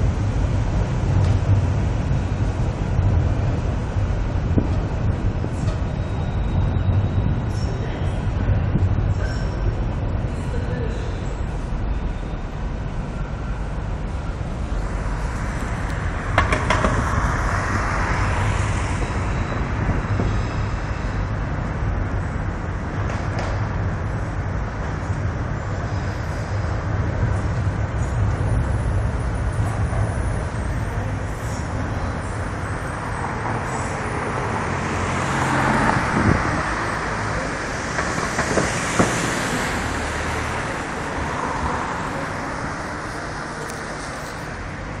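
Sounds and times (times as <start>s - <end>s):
city traffic hum: 0.0s - 45.0s
train running on viaduct: 0.0s - 45.0s.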